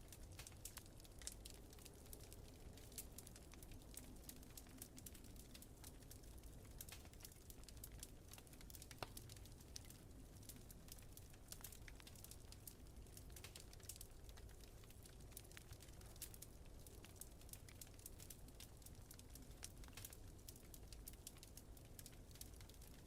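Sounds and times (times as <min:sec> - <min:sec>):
low fire rumble: 0:00.0 - 0:23.0
wood fire crackling: 0:00.0 - 0:23.0.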